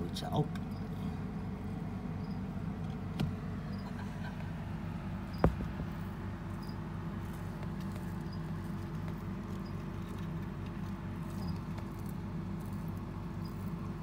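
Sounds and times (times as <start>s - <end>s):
pulsing mechanical hum: 0.0s - 14.0s.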